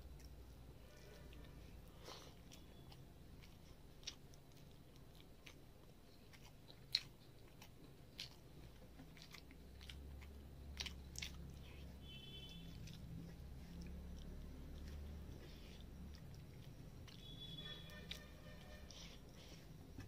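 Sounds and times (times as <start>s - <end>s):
chewing: 0.0s - 20.0s
fingers mixing food wet clicks: 2.4s - 20.0s.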